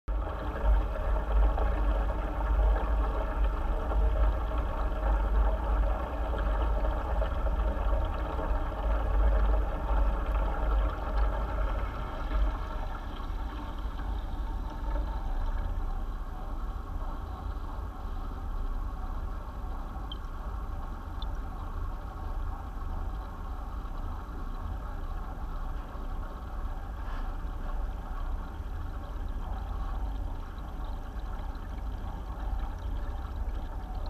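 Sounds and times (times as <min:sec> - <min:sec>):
water pump hum underwater: 0:00.0 - 0:34.0.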